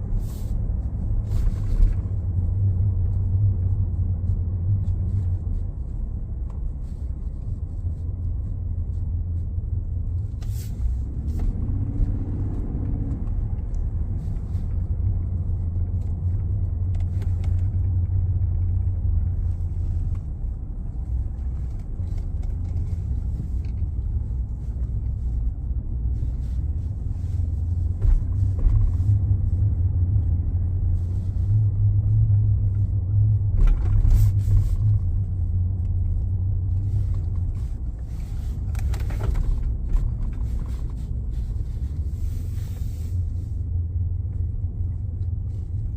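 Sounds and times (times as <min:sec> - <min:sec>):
low humming drone from truck: 0:00.0 - 0:45.9.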